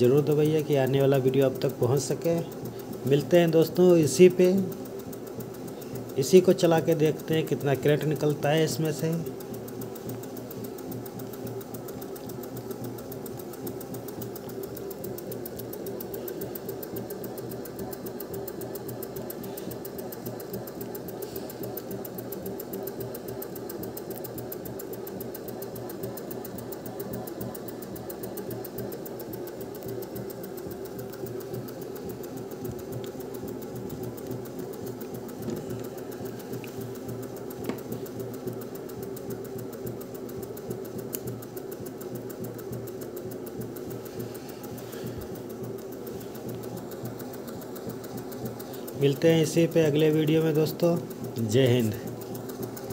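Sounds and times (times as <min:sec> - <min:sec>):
generator whirring and humming: 0:00.0 - 0:52.9.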